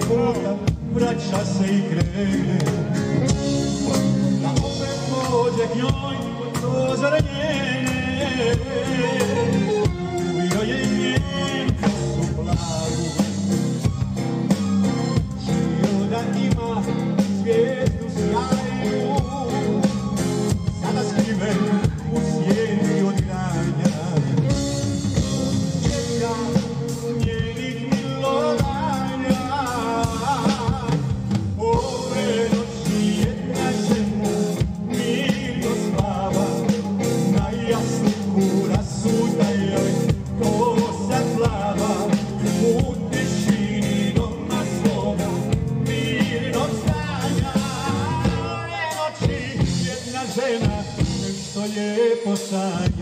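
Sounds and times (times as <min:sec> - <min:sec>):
live band playing: 0:00.0 - 0:53.0
man singing: 0:00.0 - 0:53.0.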